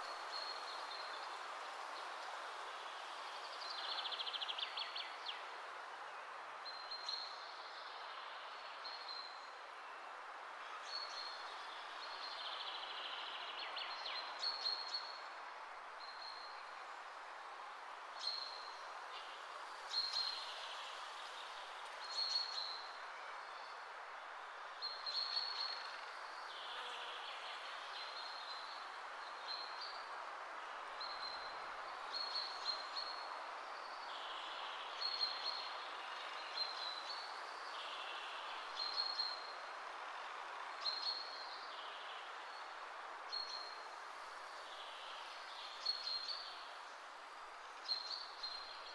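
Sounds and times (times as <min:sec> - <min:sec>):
background hiss: 0:00.0 - 0:48.9.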